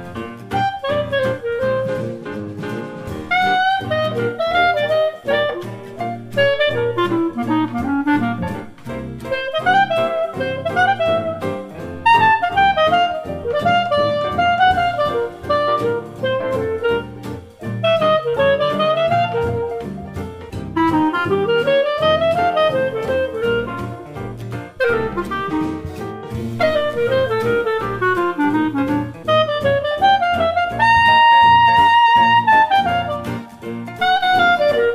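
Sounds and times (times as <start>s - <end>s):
jazz music with saxophone: 0.0s - 34.9s.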